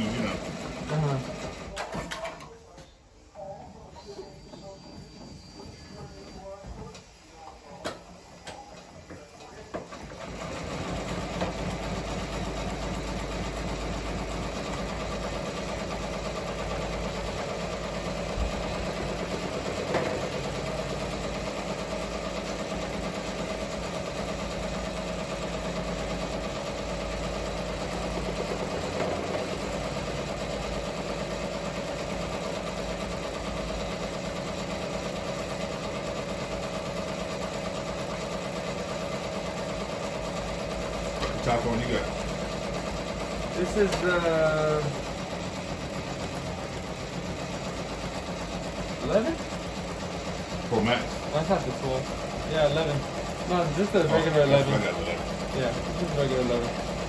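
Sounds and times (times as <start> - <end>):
embroidery machine running: 0.0 - 2.4, 3.4 - 57.0.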